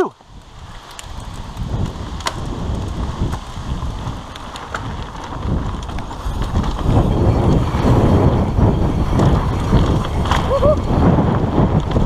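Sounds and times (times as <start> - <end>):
bike rattles: 0.0 - 12.0
wind rumble on microphone: 0.0 - 12.0
tyres crunching on dirt: 0.2 - 12.0.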